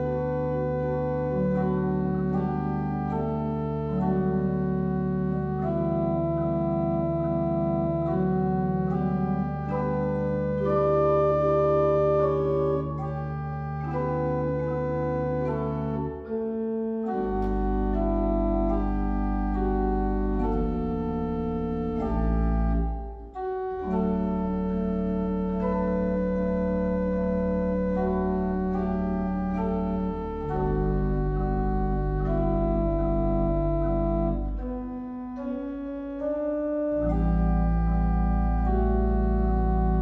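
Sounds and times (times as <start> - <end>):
pipe organ playing sustained chords: 0.0 - 40.0.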